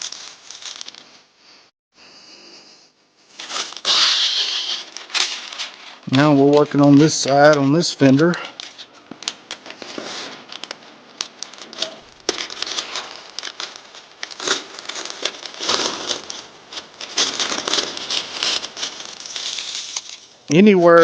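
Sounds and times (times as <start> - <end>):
paper crinkling and rustling: 0.0 - 1.2, 3.3 - 21.0.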